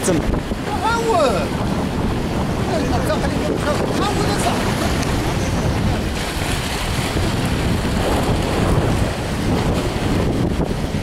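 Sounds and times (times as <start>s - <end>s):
sea waves breaking on rocks: 0.0s - 11.0s
wind buffeting microphone: 0.0s - 11.0s.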